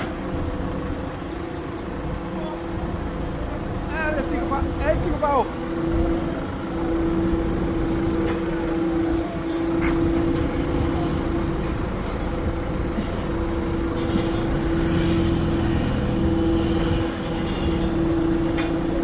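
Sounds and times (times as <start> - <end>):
machine engine humming: 0.0 - 19.0.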